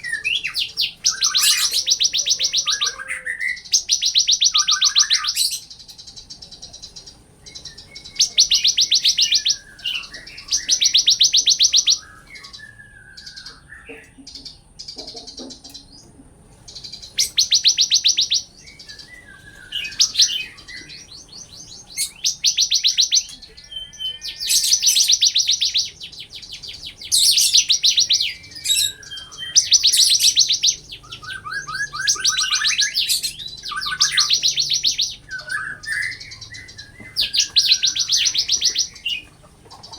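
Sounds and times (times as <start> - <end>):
bird high trills: 0.0 - 39.9
soft bird chirps: 0.0 - 39.9.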